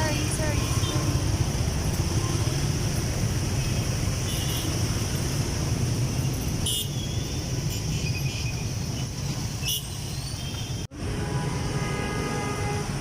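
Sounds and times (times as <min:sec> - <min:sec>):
motorbike traffic rumble: 0:00.0 - 0:13.0.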